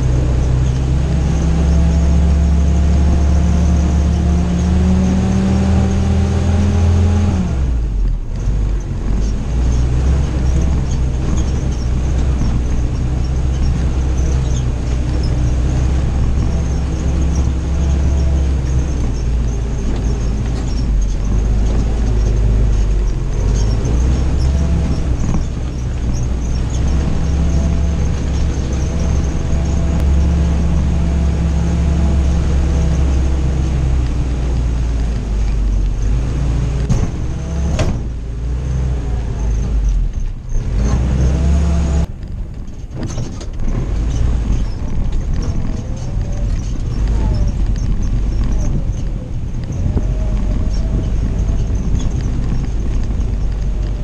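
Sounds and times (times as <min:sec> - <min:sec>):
jeep engine running: 0:00.0 - 0:54.0.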